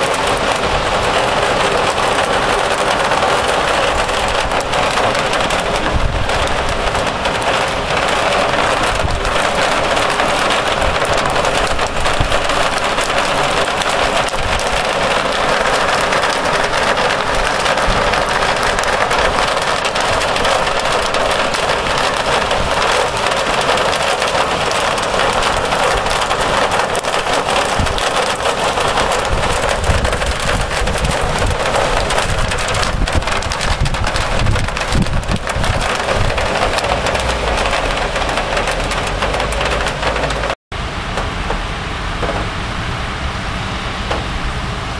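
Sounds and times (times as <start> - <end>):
hailstones striking window ledge: 0.0 - 40.6
heavy rain hissing: 0.0 - 44.9.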